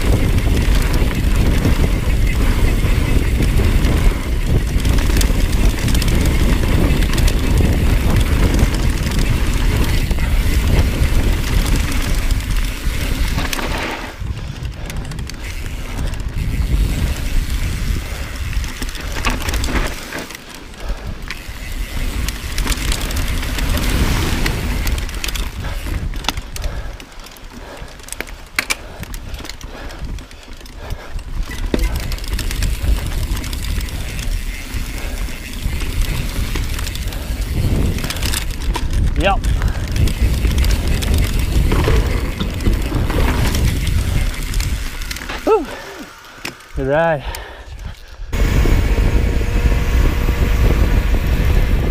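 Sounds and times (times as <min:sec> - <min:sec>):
bike clicks and rattles: 0:00.0 - 0:51.9
bike tyres rumbling over dirt: 0:00.0 - 0:51.9.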